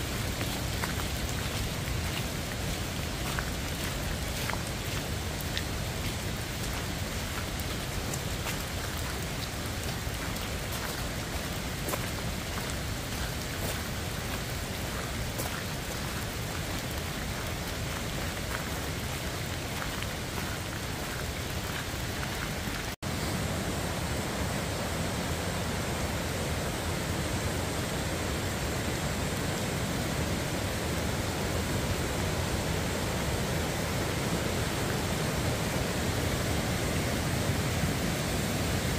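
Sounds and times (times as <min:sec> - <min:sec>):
rain falling in forest: 0:00.0 - 0:38.9
river running over rapids: 0:00.0 - 0:38.9.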